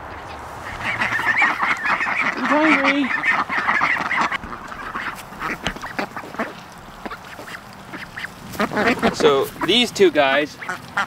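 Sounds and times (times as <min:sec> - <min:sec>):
ducks quacking: 0:00.0 - 0:11.0
rustles: 0:00.0 - 0:11.0.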